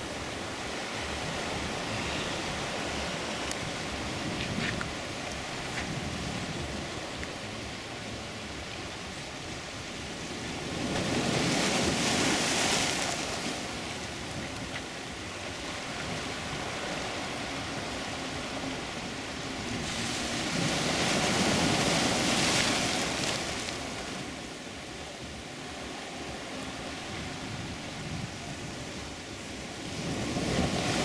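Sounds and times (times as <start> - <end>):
ocean waves breaking on rocks: 0.0 - 31.0.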